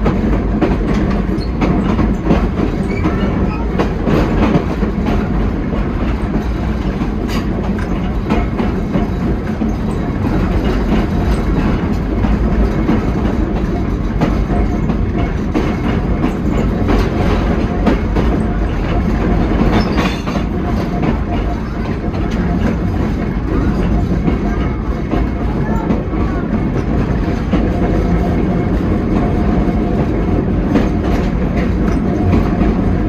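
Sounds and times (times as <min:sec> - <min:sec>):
wheels clicking over rail joints: 0:00.0 - 0:33.0.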